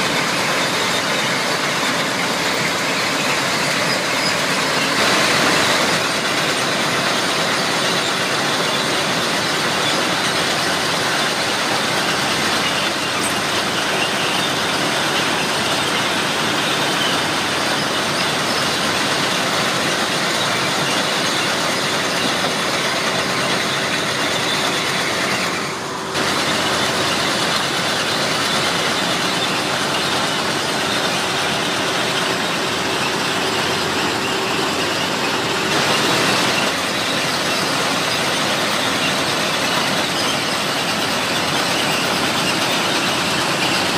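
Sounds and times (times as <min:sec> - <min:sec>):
track machinery noise: 0:00.0 - 0:43.9.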